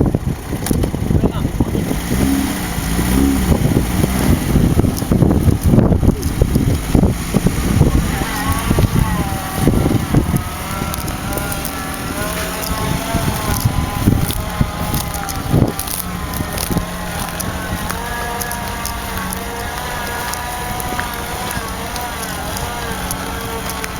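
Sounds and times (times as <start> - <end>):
drivetrain whine: 0.0 - 23.9
rumbling and knocking jolts: 0.0 - 23.9
wind buffeting microphone: 0.0 - 23.9.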